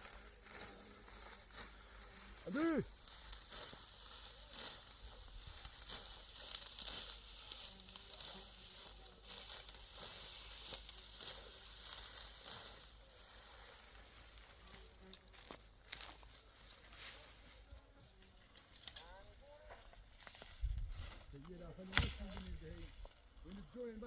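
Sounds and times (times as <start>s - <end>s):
dry wheat stalks rustling: 0.0s - 24.0s.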